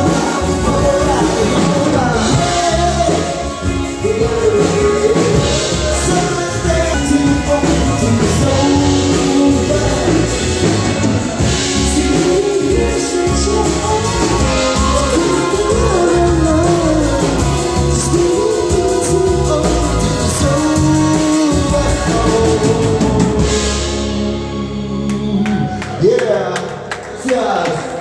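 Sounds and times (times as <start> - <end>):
drum kit: 0.0 - 26.0
man singing: 0.0 - 26.5
electric bass: 0.0 - 26.9
electric guitars: 0.0 - 28.0.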